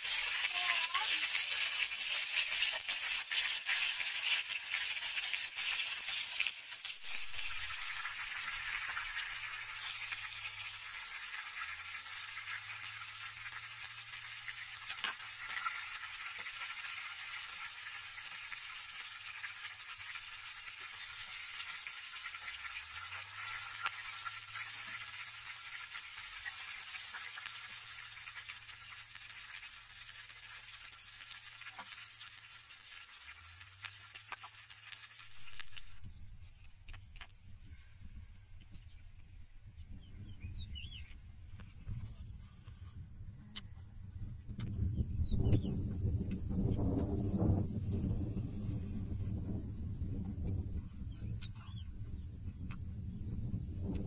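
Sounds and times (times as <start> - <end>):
chicken frying in hot oil: 0.0 - 36.4, 44.1 - 54.0.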